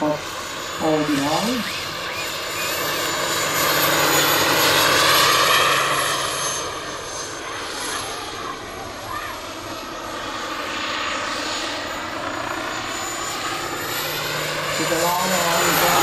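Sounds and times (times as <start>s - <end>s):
helicopter rotor noise: 0.0s - 16.0s
model helicopter turbine whine: 0.0s - 16.0s.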